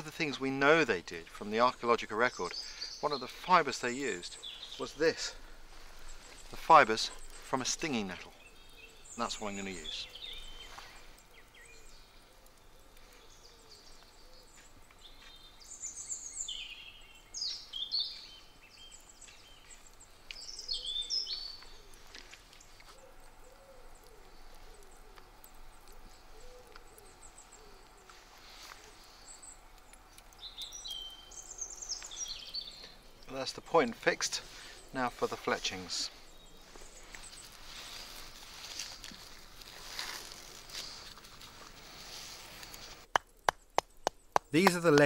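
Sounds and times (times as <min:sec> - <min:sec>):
songbirds chirping: 0:00.0 - 0:45.0
faint low bird calls: 0:02.2 - 0:43.0.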